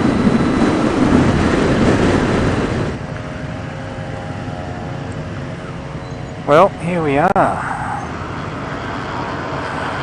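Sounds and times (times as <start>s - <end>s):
motorcycle engine: 0.0s - 10.0s
wind noise: 0.0s - 10.0s.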